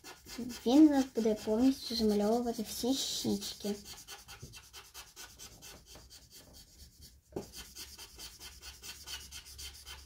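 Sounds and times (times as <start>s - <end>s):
marker rubbing on paper: 0.0s - 10.0s.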